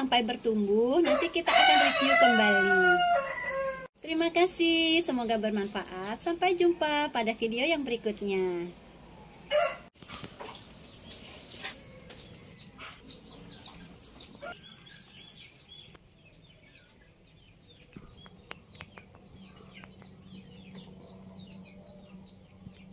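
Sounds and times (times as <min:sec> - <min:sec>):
high birds chirping: 0:00.0 - 0:22.9.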